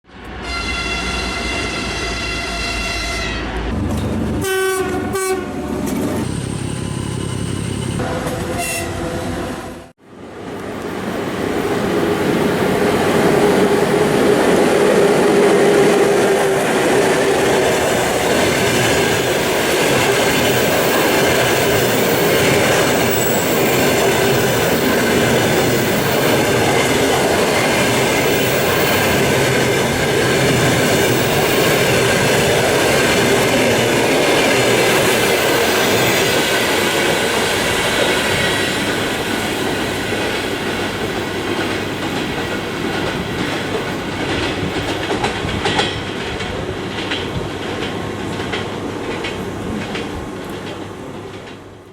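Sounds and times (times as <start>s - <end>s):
electric locomotive whine: 0.1s - 51.9s
train wheels on rails: 3.2s - 8.9s, 10.3s - 51.9s.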